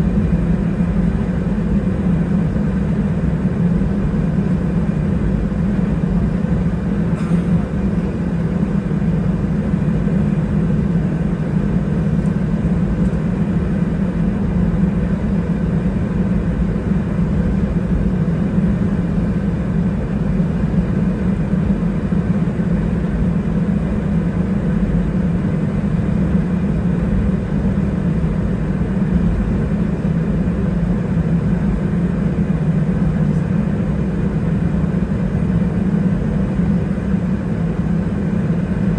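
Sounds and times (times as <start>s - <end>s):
airplane cabin rumble while taxiing: 0.0s - 38.9s.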